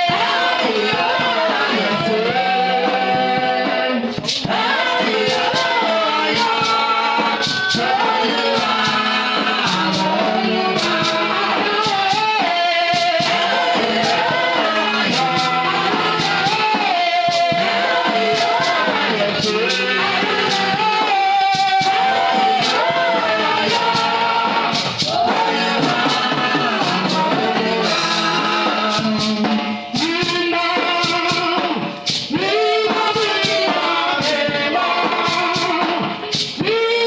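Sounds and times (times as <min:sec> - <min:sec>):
band accompaniment: 0:00.0 - 0:37.0
group singing: 0:00.0 - 0:37.0.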